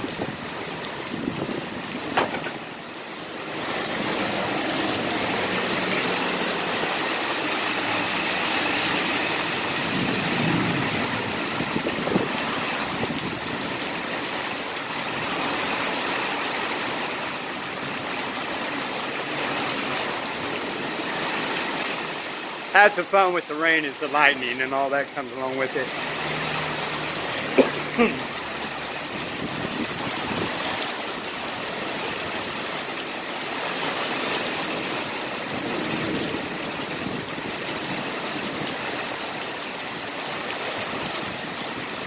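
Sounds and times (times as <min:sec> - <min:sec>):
heavy rain on a vehicle: 0:00.0 - 0:42.0.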